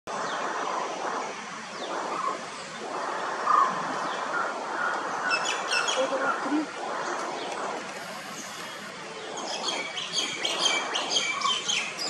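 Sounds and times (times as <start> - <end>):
birds calling: 0.2 - 12.0.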